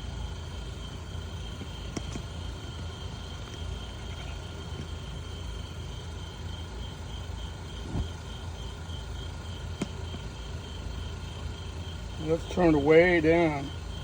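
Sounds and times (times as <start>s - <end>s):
crickets chirping: 0.0s - 14.0s
propane fire pit burning: 0.0s - 14.0s.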